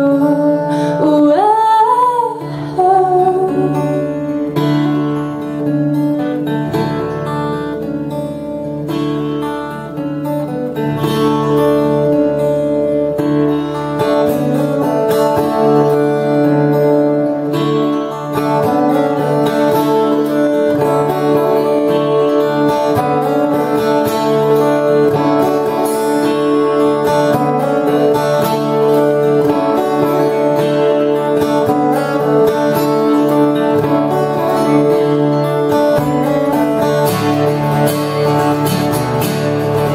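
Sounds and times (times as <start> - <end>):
acoustic guitars playing: 0.0 - 39.9.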